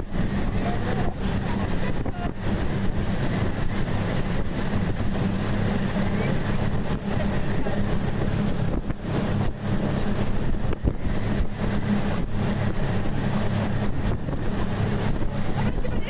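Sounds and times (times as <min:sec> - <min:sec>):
boat engine running: 0:00.0 - 0:16.0
wind buffeting microphone: 0:00.0 - 0:16.0.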